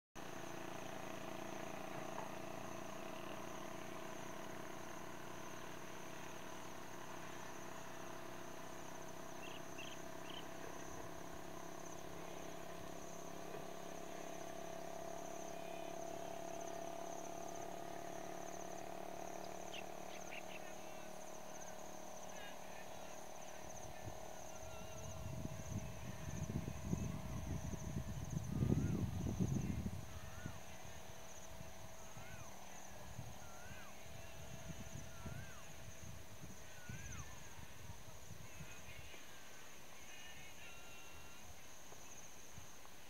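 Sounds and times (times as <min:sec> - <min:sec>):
insects trilling: 0:00.2 - 0:43.0.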